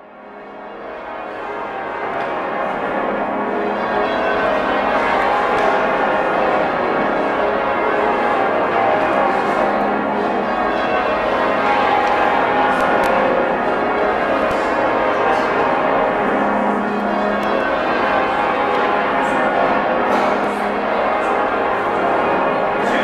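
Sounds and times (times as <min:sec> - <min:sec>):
tower bells ringing: 0:00.0 - 0:23.0.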